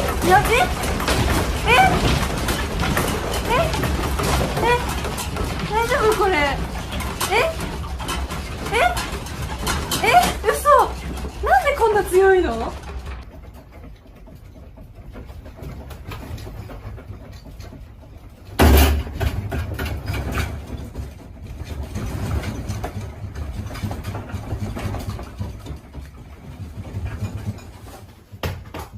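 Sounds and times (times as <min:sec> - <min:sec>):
faint rattling: 0:00.0 - 0:28.9.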